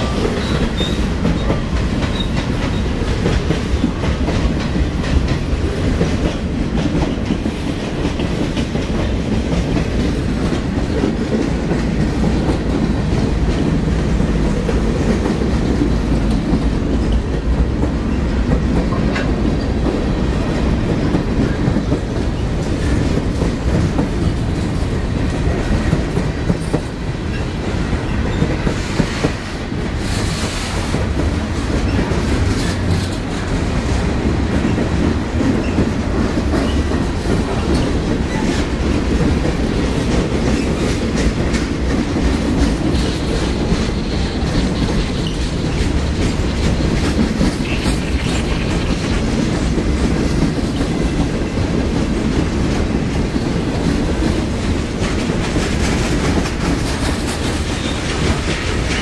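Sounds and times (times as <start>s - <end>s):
freight train rumbling past: 0.0s - 59.0s
train wheel clicks: 0.0s - 59.0s.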